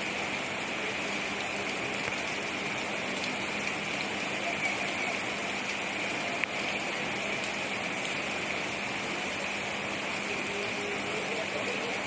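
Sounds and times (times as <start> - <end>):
steady rain hissing: 0.0 - 12.0.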